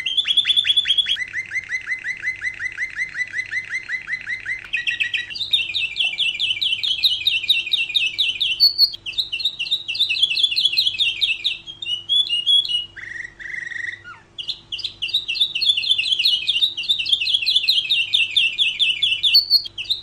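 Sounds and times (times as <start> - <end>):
canary singing trills: 0.0 - 20.0.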